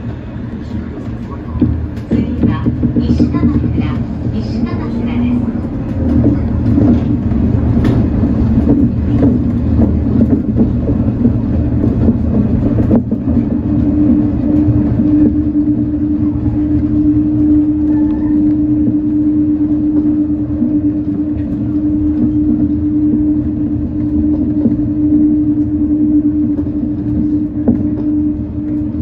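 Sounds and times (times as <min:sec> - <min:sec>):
monorail car rumbling: 0:00.0 - 0:29.0
steady hum: 0:00.0 - 0:29.0.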